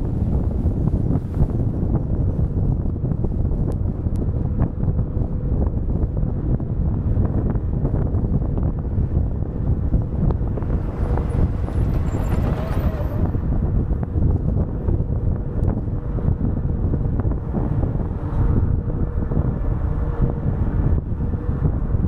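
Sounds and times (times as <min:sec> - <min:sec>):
car road and tyre noise: 0:00.0 - 0:22.0
wind buffeting microphone: 0:00.0 - 0:22.0.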